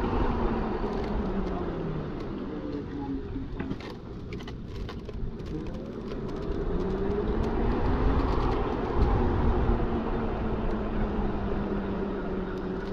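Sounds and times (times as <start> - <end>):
wind and road rumble: 0.0 - 12.9.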